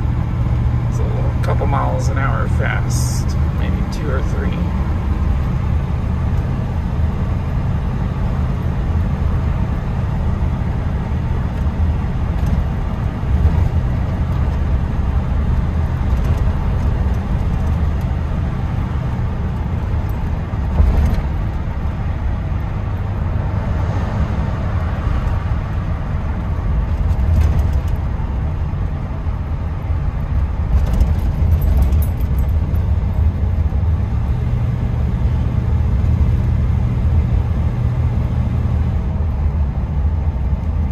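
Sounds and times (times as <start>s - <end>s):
engine and exhaust drone: 0.0s - 40.9s
tire noise: 0.0s - 40.9s.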